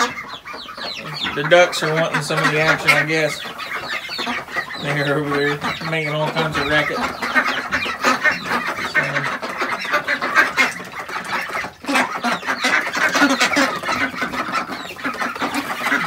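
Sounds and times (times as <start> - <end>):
ducks quacking loudly: 0.0 - 16.0.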